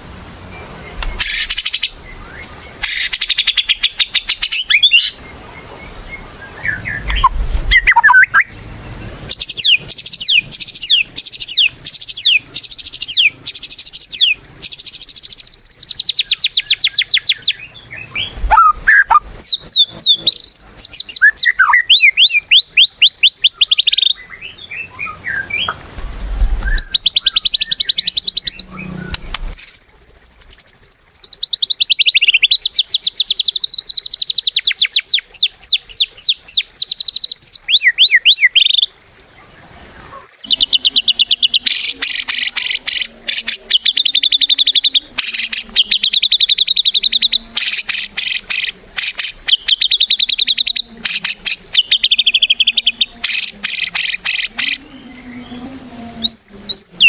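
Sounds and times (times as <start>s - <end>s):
songbird trilling: 0.0s - 25.8s, 26.6s - 57.0s.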